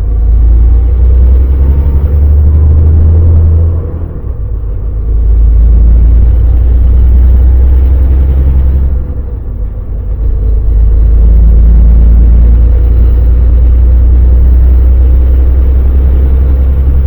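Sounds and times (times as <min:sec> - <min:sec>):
road noise: 0:00.0 - 0:17.0
truck diesel engine rumbling: 0:00.0 - 0:17.0.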